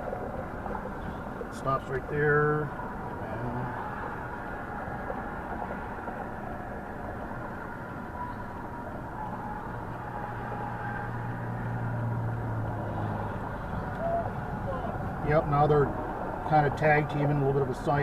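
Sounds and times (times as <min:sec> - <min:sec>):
low engine hum: 0:00.0 - 0:18.0
road and vehicle noise: 0:00.0 - 0:18.0.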